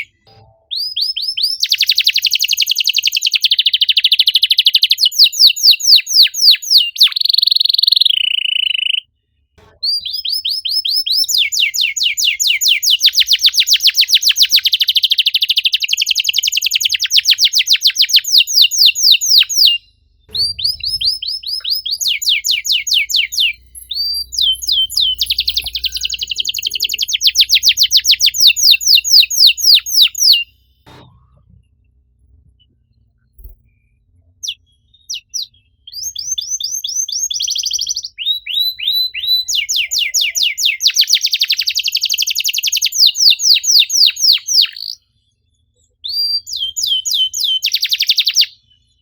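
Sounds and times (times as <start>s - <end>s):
canary singing trills: 0.0s - 31.0s, 33.4s - 45.1s, 45.9s - 49.0s.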